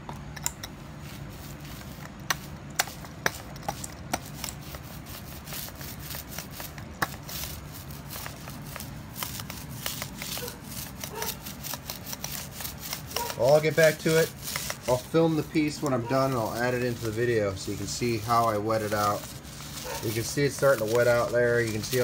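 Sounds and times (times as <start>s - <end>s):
roller rubbing on wet fiberglass: 0.7s - 22.0s.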